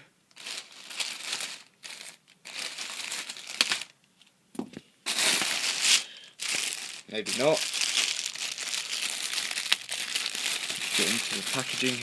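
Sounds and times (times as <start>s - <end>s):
packaging crinkling: 0.4s - 4.0s, 5.1s - 12.0s.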